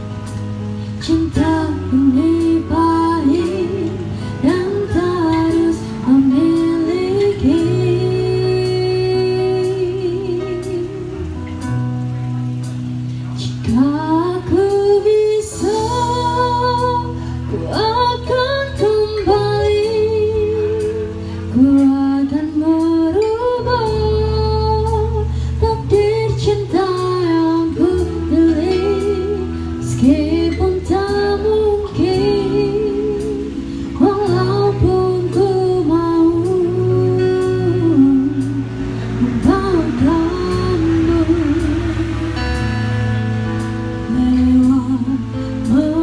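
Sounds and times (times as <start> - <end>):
electric bass: 0.0 - 46.0
guitar: 0.0 - 46.0
keyboard: 0.0 - 46.0
woman singing into microphone: 0.0 - 46.0.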